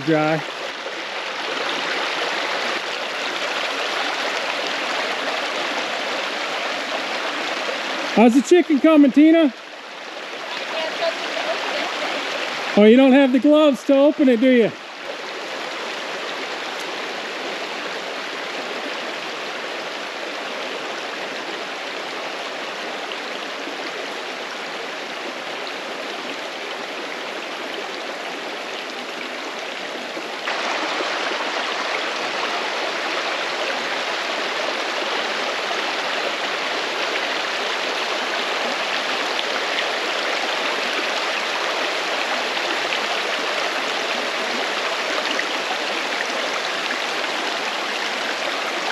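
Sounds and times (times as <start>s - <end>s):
creek flowing over rocks: 0.0s - 48.9s.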